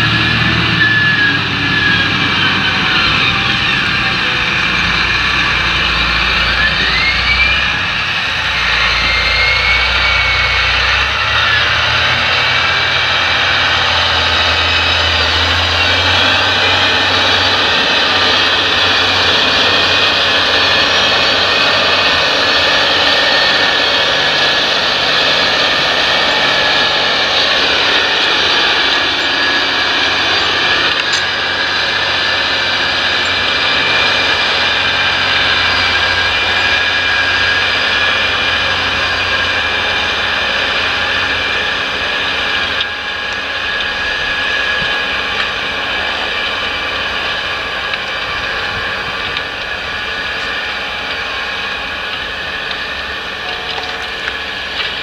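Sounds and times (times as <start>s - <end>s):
tractor diesel engine rumbling: 0.0s - 55.0s
tractor track noise: 0.0s - 55.0s.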